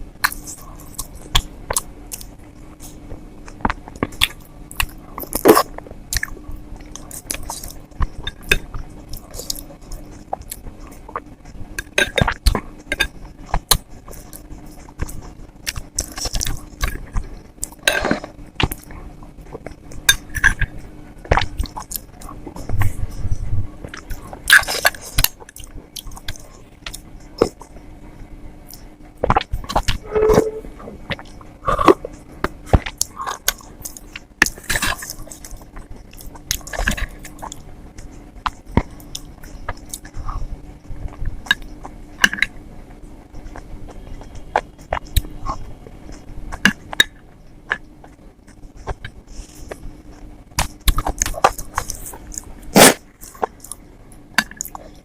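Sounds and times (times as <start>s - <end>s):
person chewing wet food: 0.2s - 27.8s, 28.6s - 55.0s.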